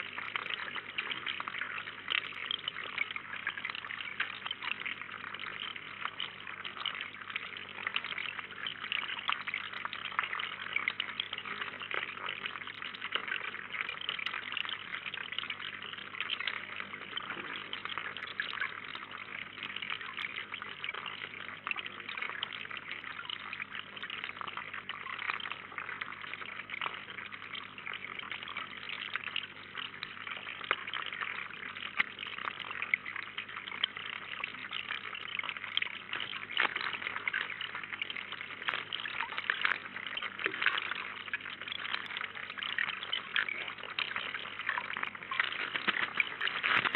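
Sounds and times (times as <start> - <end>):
water trickling into pond: 0.0 - 46.9.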